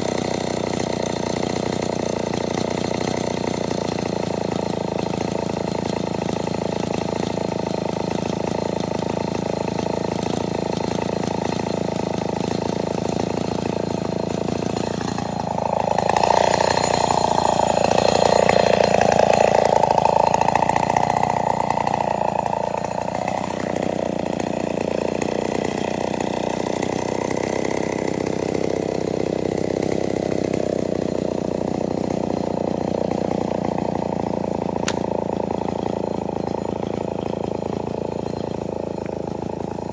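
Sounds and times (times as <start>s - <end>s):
two-stroke chainsaw running: 0.0s - 39.9s.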